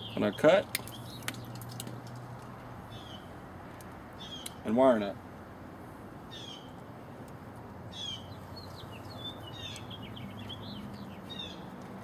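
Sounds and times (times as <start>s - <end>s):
small birds chirping: 0.0s - 4.8s, 6.3s - 12.0s
outdoor background noise: 0.0s - 12.0s.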